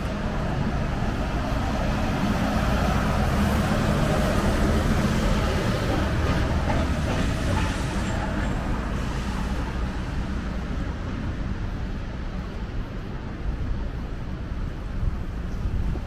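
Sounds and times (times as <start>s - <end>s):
tyres hissing on wet road: 0.0s - 16.0s
vehicles passing: 0.0s - 16.0s.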